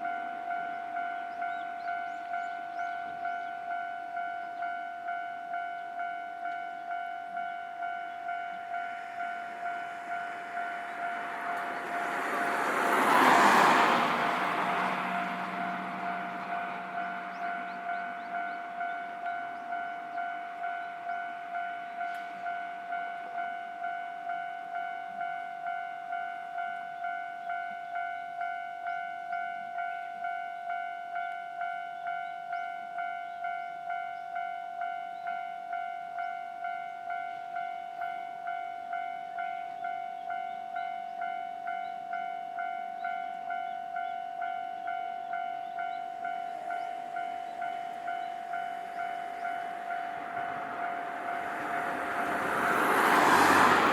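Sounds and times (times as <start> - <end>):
level crossing warning bell: 0.0 - 53.9.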